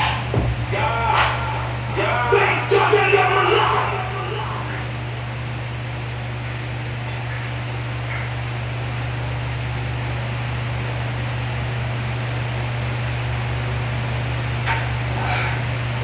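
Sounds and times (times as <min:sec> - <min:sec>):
fan hiss and hum: 0:00.0 - 0:16.0.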